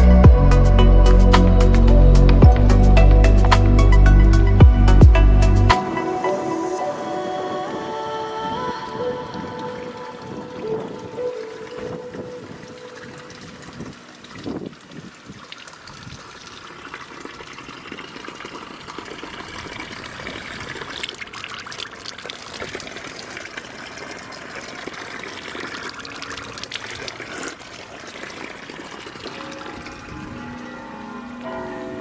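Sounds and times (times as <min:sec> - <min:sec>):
water trickling and splashing: 0:01.9 - 0:32.0.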